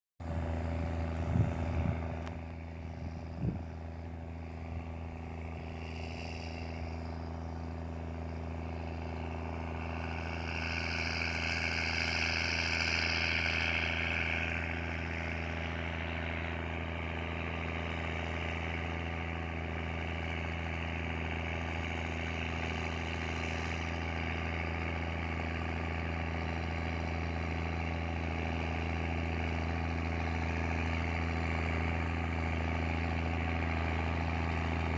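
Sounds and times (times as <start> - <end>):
tractor engine rumbling: 0.2 - 34.9.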